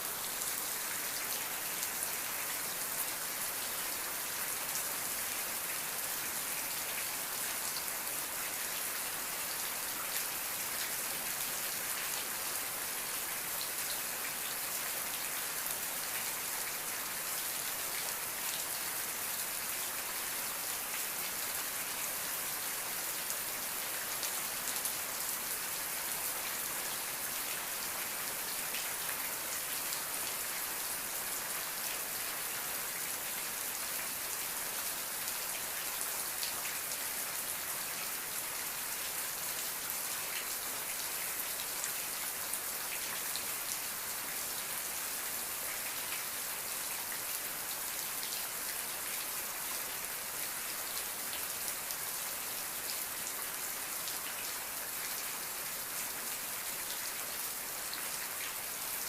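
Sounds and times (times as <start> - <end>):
rain falling on a surface: 0.0 - 59.0.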